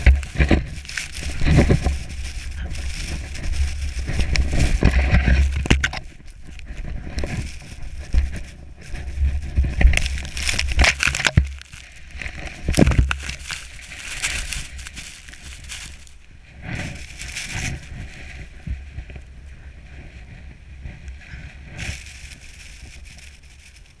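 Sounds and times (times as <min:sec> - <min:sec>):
snow sliding and scraping: 0:00.0 - 0:24.0.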